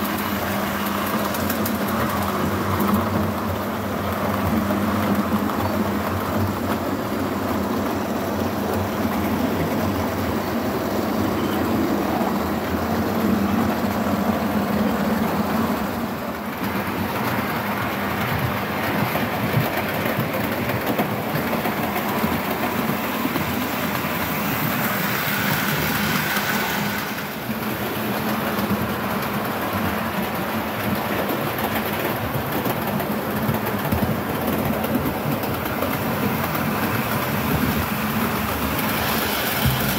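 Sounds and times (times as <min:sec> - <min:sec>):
model trains running on track: 0:00.0 - 0:39.9.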